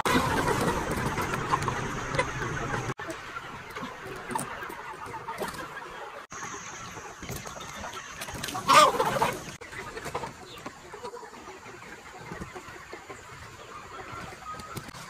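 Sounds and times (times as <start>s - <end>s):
young chickens clucking: 0.0s - 15.0s.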